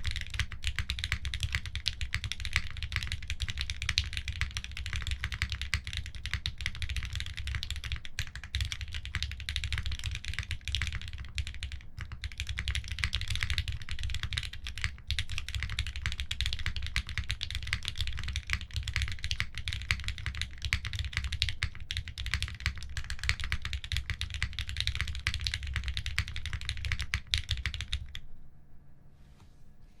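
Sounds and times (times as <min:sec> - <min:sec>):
fast typing on keyboard: 0:00.0 - 0:28.2.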